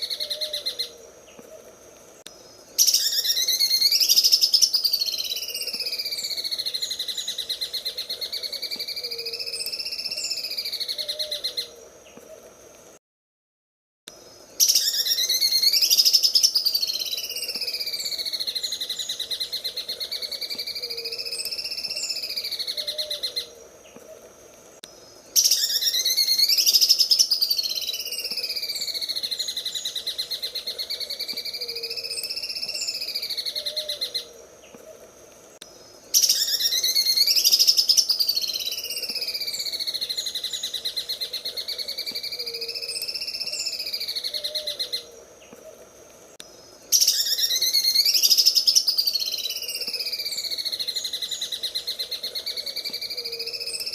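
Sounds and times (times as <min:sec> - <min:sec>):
bird singing rattling song: 0:00.0 - 0:12.3, 0:14.1 - 0:53.9.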